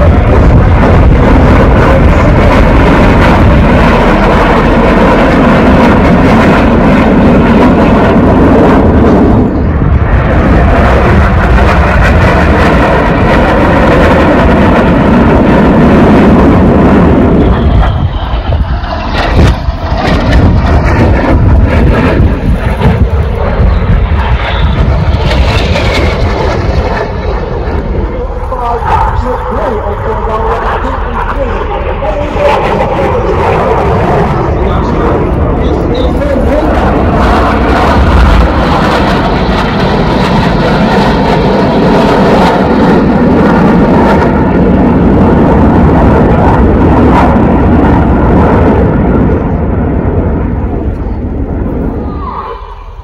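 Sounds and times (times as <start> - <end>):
aircraft engine rushing: 0.0 - 53.0
faint engine whine: 0.0 - 53.0.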